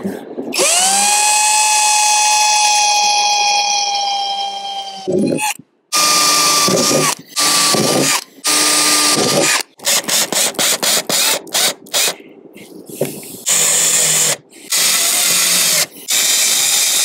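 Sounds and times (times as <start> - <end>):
cordless drill whirring: 0.6 - 12.2, 13.5 - 17.0.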